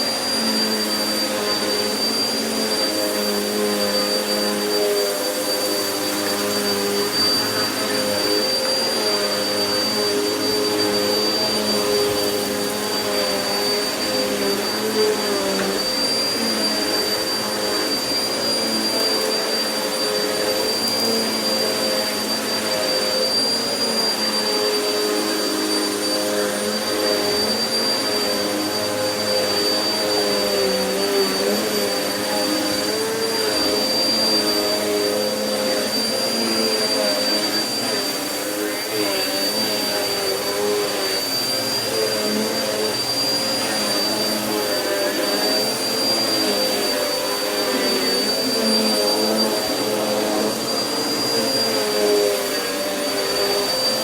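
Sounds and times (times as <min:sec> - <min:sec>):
vacuum cleaner on carpet: 0:00.0 - 0:54.0.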